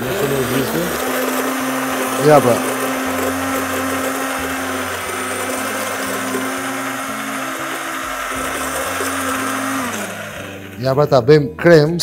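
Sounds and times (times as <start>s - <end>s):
immersion blender running: 0.0s - 11.2s.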